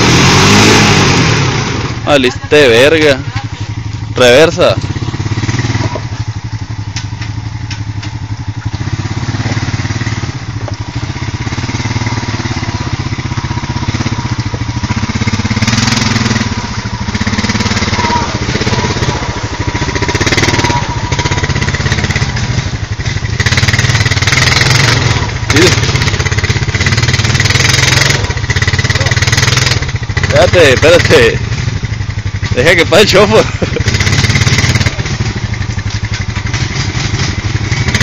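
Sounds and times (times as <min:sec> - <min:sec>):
quad bike engine at low speed: 0:00.0 - 0:38.0.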